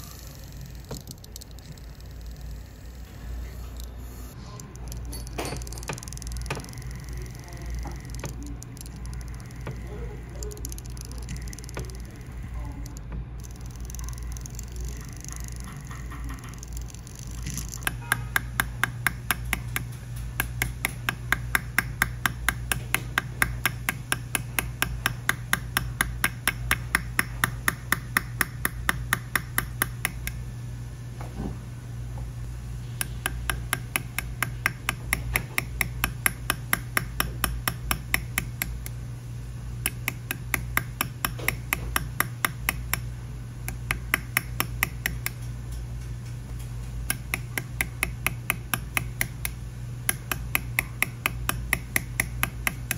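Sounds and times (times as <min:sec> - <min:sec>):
steady low hum: 0:00.0 - 0:52.9
sharp metallic hammer taps: 0:04.6 - 0:17.0, 0:17.6 - 0:30.4, 0:33.0 - 0:39.0, 0:39.8 - 0:43.1, 0:43.7 - 0:46.1, 0:47.1 - 0:52.9.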